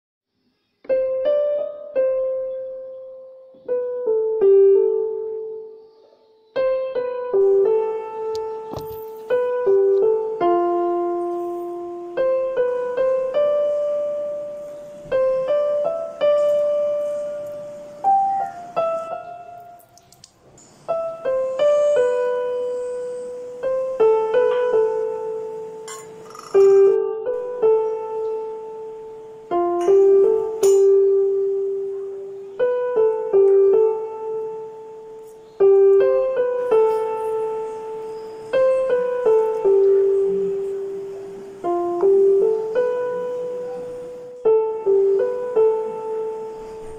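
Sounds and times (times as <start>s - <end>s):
slow solo piano: 0.5s - 46.9s.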